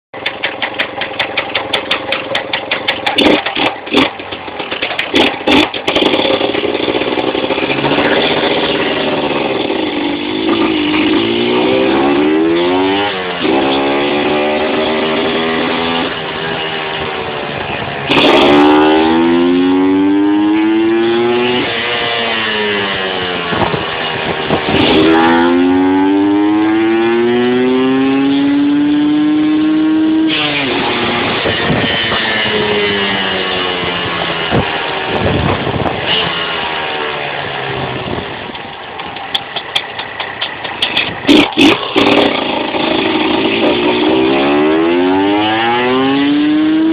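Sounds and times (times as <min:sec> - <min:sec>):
motorcycle engine accelerating: 0:00.2 - 0:46.9.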